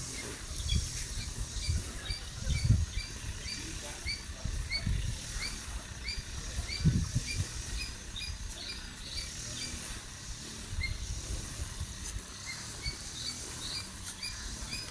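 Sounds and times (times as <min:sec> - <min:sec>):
bird chirping: 0:00.0 - 0:09.8, 0:12.3 - 0:14.9
low rumbling microphone noise: 0:00.0 - 0:14.9.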